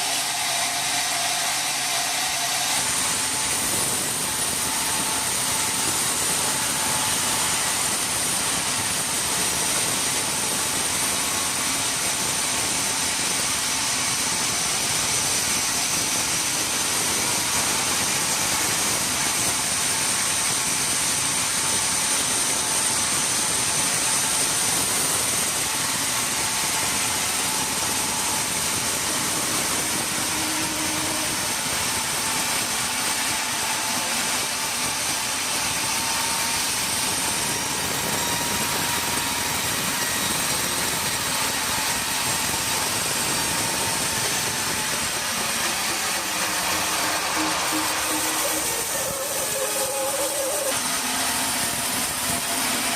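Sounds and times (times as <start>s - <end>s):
sawmill machinery running: 0.0s - 52.9s
steady high whine: 0.0s - 52.9s.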